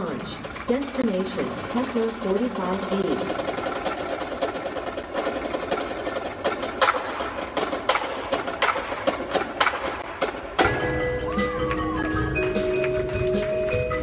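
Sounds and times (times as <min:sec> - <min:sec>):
drumline clicks and drum strokes: 0:00.0 - 0:14.0.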